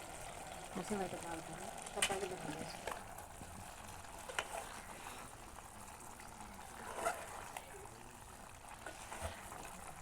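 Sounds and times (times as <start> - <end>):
curry simmering in a pot: 0.0 - 10.0.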